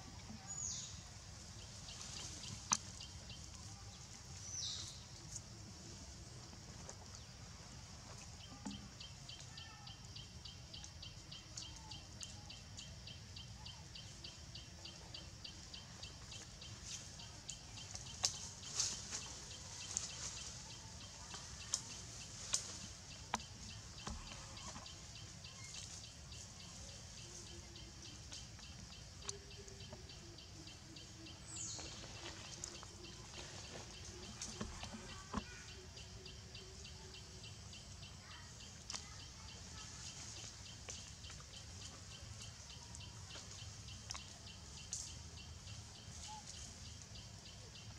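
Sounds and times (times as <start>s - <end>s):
leaves and twigs rustling: 0.0s - 9.6s, 14.9s - 47.9s.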